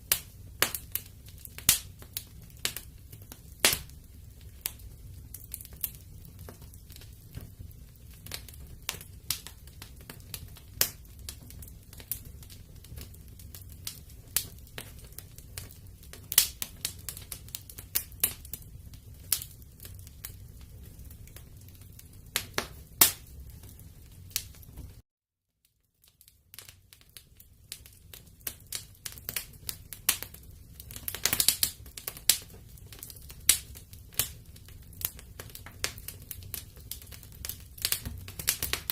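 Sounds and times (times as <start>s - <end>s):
low steady fire rumble: 0.0s - 25.0s, 26.0s - 38.9s
wood fire crackling: 0.0s - 25.0s, 25.7s - 38.9s.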